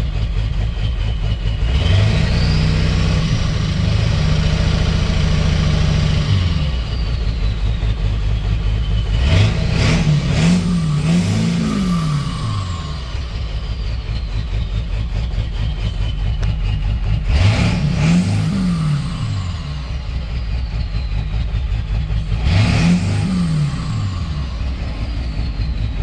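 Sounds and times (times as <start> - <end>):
diesel truck engine idling roughly: 0.0 - 26.0.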